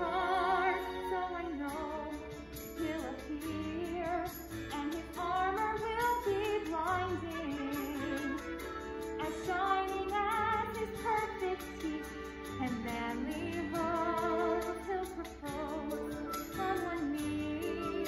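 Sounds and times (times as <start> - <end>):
musical accompaniment: 0.0 - 18.0
woman singing with vibrato: 0.0 - 18.0.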